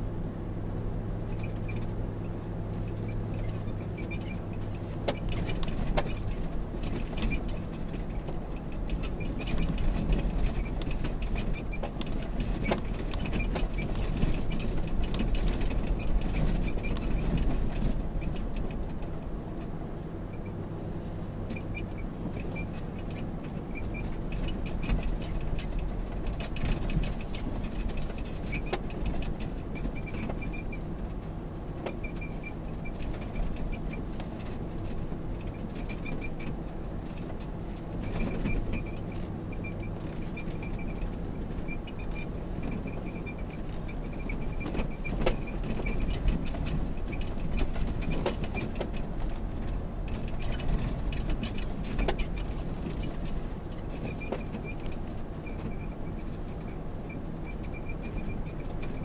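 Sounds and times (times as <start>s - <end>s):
engine and tyre rumble: 0.0s - 59.0s
interior rattles and squeaks: 0.0s - 59.0s.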